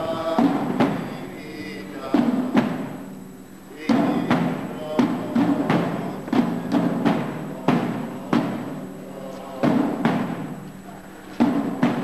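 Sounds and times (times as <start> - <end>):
drums beating a slow march: 0.0 - 12.0.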